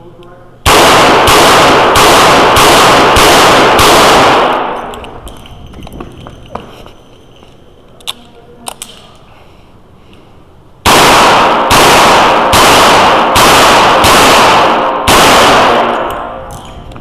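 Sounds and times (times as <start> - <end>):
revolver shots ringing indoors: 0.6 - 9.2, 10.8 - 17.0.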